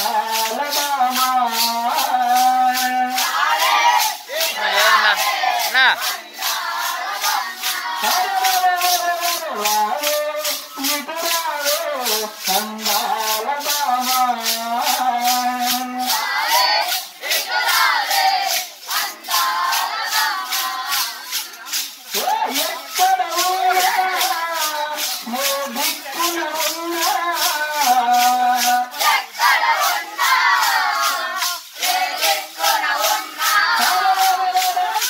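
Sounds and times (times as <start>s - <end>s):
jingling clappers: 0.0s - 35.0s
voices singing devotional song: 0.0s - 35.0s.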